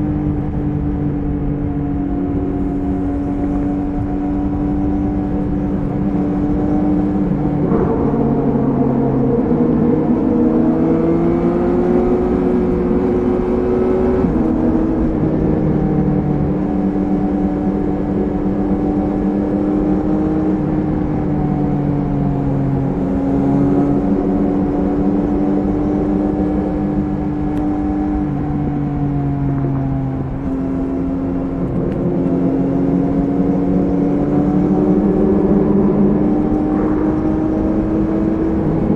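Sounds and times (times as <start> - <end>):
motorcycle engine cruising: 0.0 - 38.9
rush of noise: 0.0 - 38.9.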